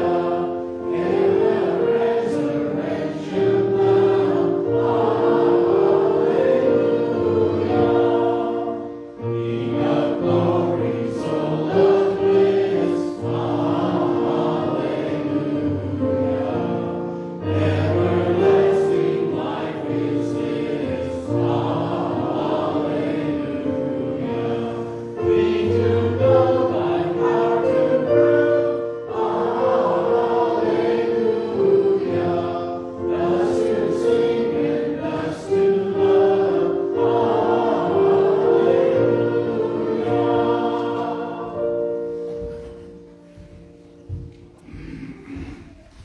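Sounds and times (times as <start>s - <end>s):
choir singing: 0.0s - 46.0s.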